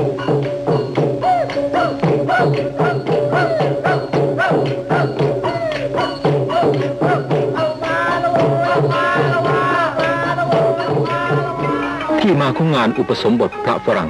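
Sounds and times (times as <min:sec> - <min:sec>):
drums and hand percussion: 0:00.0 - 0:14.0
high held melody line: 0:00.0 - 0:14.0.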